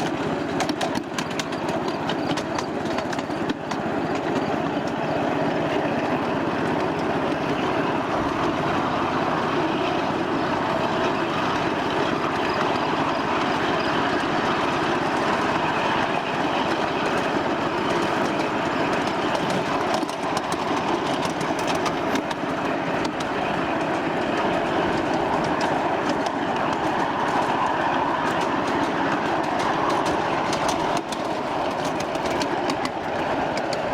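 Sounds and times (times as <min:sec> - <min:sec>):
miniature train wheels rumbling: 0:00.0 - 0:33.9
wheel clicks on track: 0:00.0 - 0:33.9.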